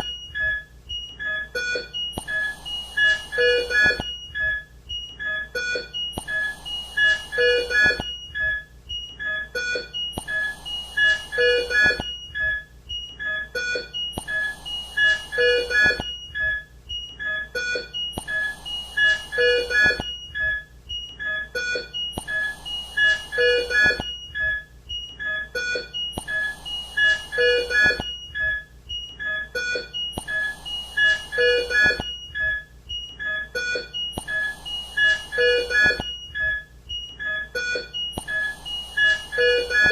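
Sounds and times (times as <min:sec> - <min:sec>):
monitor beeps and alarm tones: 0:00.0 - 0:39.9.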